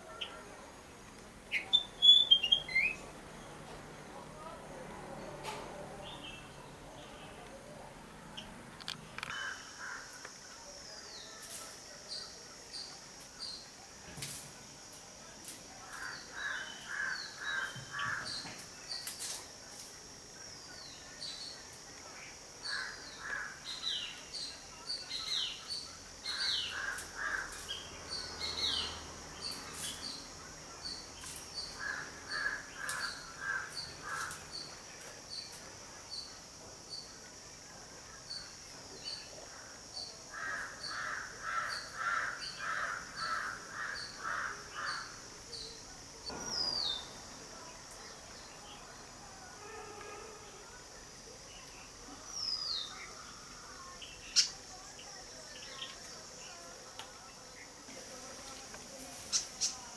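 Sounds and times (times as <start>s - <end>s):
high insect drone: 3.0s - 59.9s.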